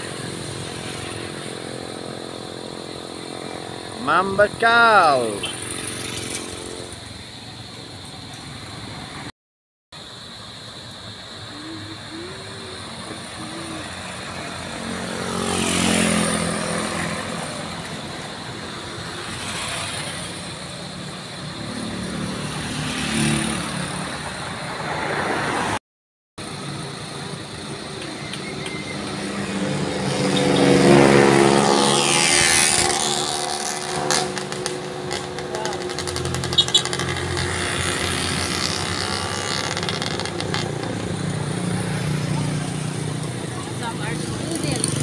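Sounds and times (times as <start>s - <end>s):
vehicles driving by: 0.0s - 9.3s, 10.0s - 25.8s, 26.4s - 45.0s.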